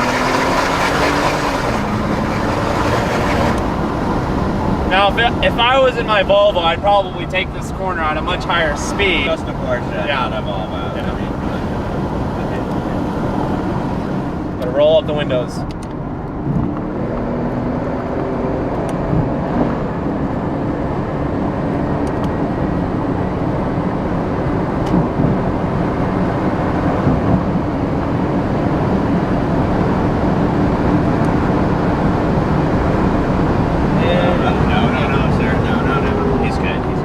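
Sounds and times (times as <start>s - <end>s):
car engine running: 0.0s - 17.2s, 19.9s - 37.0s
tyre and road noise: 0.0s - 37.0s.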